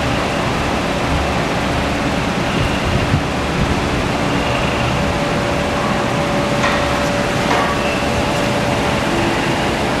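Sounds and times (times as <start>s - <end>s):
faint constant hum: 0.0s - 10.0s.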